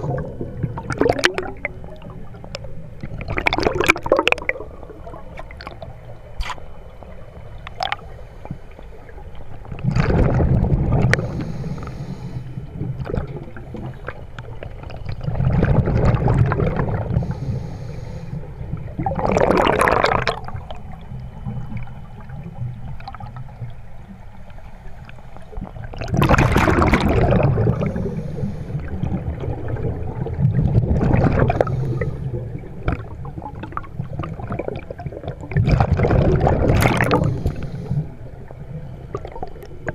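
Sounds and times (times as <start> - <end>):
exhaled bubbles gurgling underwater: 0.0 - 39.9
murmur of water: 0.0 - 39.9.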